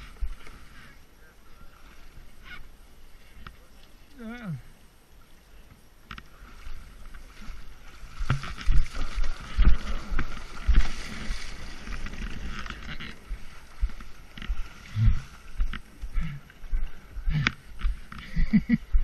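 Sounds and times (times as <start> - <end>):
water splashing around kayak: 0.0 - 19.0.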